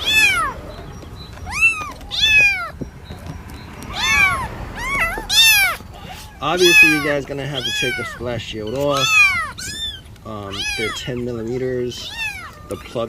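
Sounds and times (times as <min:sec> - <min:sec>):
cat meowing: 0:00.0 - 0:00.6, 0:01.4 - 0:02.8, 0:03.8 - 0:13.0.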